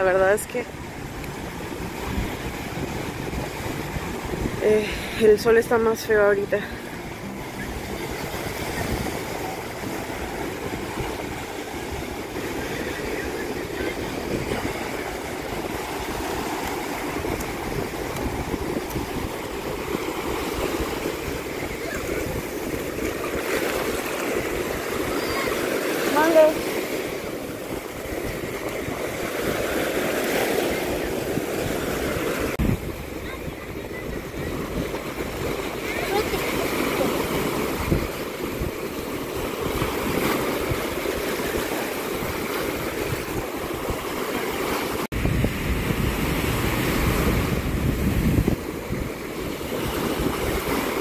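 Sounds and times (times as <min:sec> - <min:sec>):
sea surf washing over sand: 0:00.0 - 0:51.0
waves breaking on beach: 0:00.0 - 0:51.0
wind buffeting microphone: 0:00.0 - 0:51.0.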